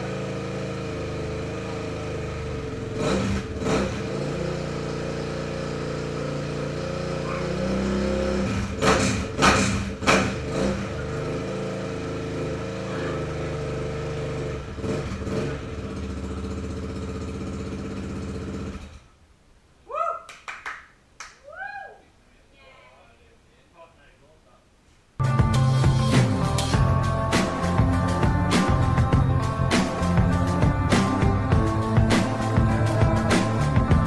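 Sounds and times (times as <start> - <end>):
dirt bike engine idling: 0.0 - 19.1, 25.2 - 34.0.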